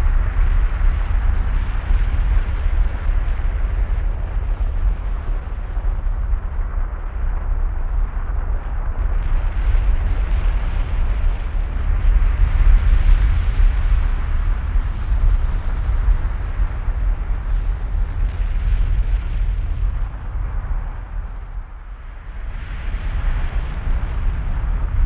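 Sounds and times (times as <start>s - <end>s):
lava fountain rumbling roar: 0.0s - 25.0s.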